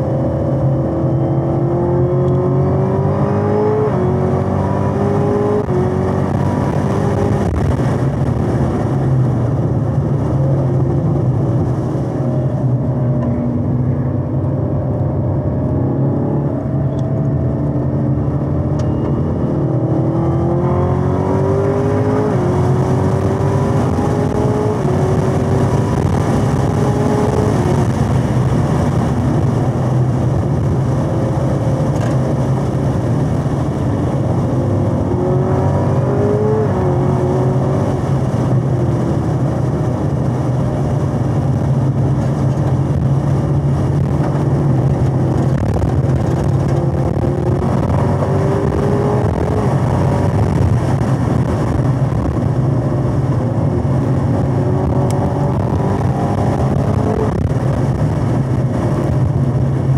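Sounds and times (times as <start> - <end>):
car engine accelerating: 0.0 - 59.9
low road drone: 0.0 - 59.9.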